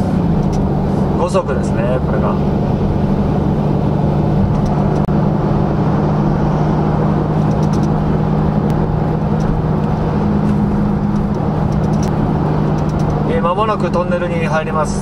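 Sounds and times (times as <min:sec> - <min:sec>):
car exhaust drone: 0:00.0 - 0:15.0
road noise: 0:00.0 - 0:15.0.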